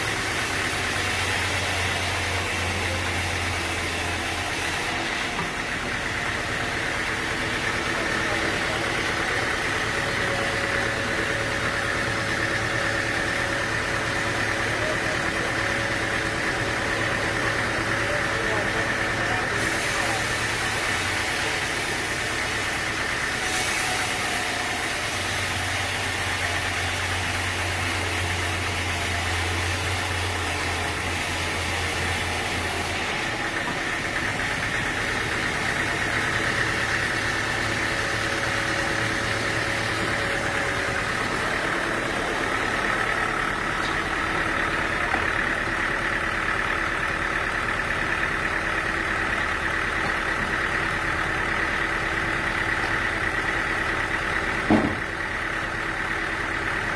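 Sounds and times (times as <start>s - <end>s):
sawmill machinery droning: 0.0s - 56.9s.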